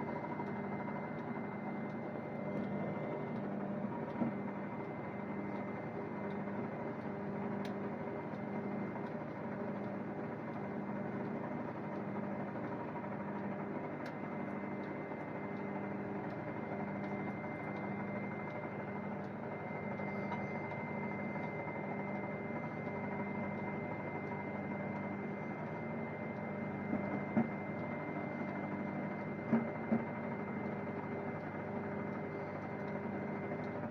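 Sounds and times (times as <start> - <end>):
microwave oven humming: 0.0 - 33.9.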